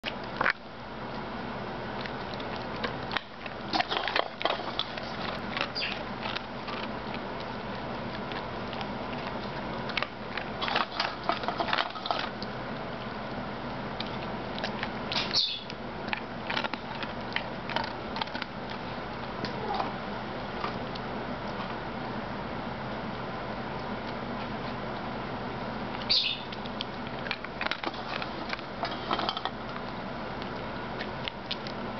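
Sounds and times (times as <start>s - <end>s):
dog crunching dry kibble: 0.0s - 21.8s, 25.8s - 31.9s.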